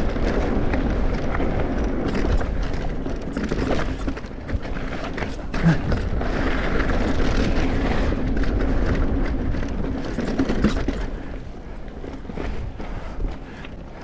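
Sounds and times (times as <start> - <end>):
bike clicks and knocks: 0.0 - 14.0
tyres rolling on dirt: 0.0 - 14.0
wind rushing over microphone: 0.0 - 14.0.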